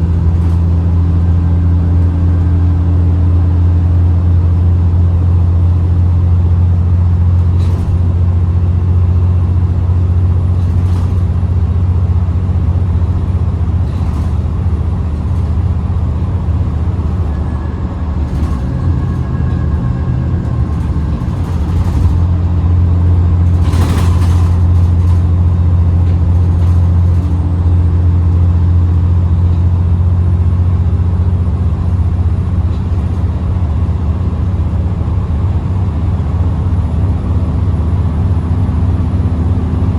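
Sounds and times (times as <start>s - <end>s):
bus diesel engine humming: 0.0s - 39.9s.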